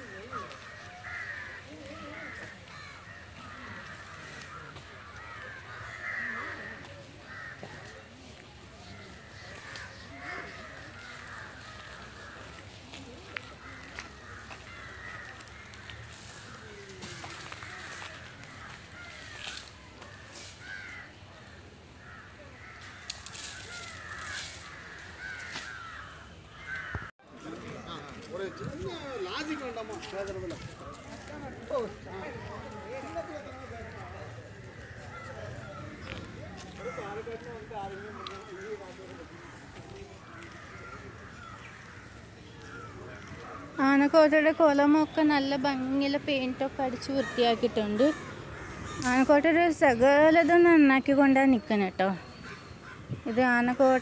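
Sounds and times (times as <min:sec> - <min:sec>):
crows cawing: 0:00.0 - 0:08.2, 0:08.8 - 0:50.8, 0:52.3 - 0:54.0.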